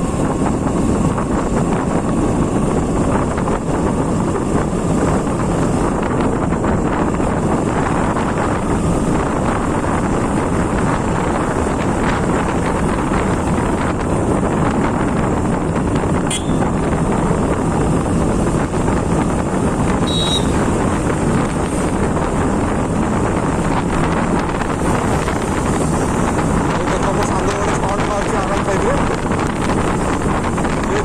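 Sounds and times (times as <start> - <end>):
motorcycle engine: 0.0 - 31.0
road noise: 0.0 - 31.0
wind rushing over microphone: 0.0 - 31.0.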